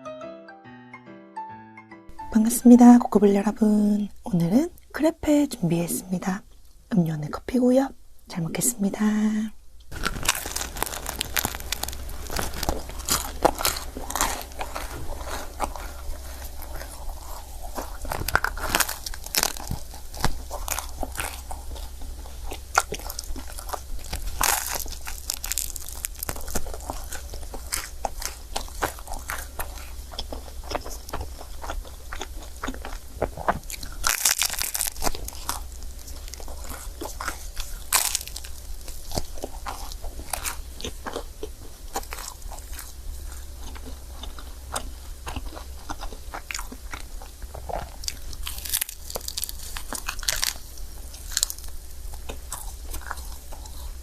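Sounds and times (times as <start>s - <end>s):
biting and chewing food: 9.9s - 54.0s.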